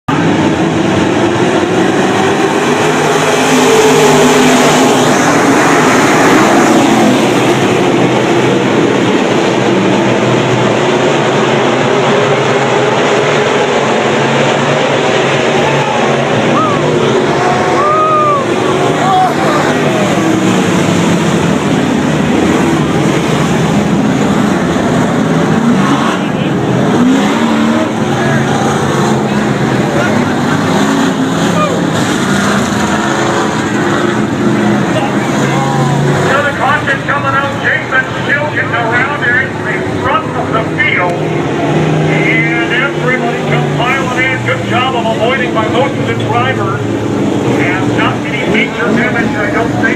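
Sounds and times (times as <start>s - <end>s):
race car engines at speed: 0.0s - 49.9s.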